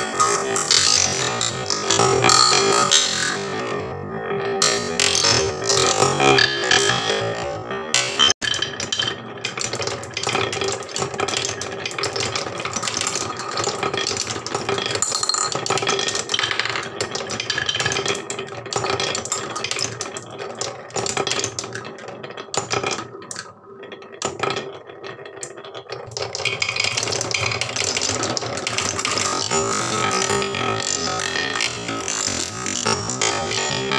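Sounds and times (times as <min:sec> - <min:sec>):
balls clicking and rattling: 0:00.0 - 0:03.7, 0:04.5 - 0:33.9
balls rolling in wooden funnel: 0:00.0 - 0:03.9, 0:04.5 - 0:33.9.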